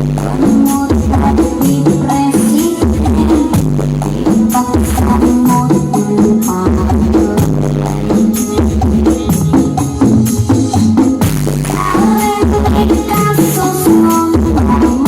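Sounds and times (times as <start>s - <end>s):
heavy pulsing bass: 0.0s - 15.0s
loud music from sound system: 0.0s - 15.0s
steady percussion beat: 0.0s - 15.0s.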